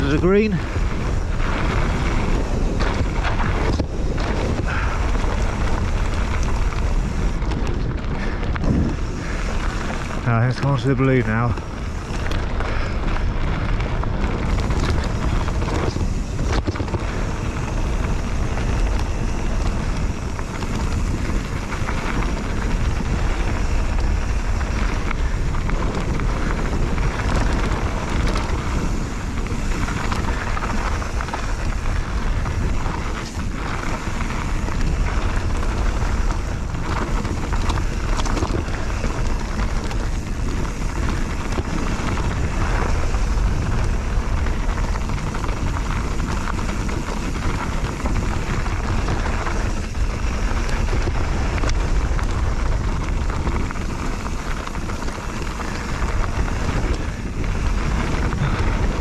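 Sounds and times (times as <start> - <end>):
bike rattles and knocks: 0.0 - 59.0
tyre noise: 0.0 - 59.0
wind on microphone: 0.0 - 59.0.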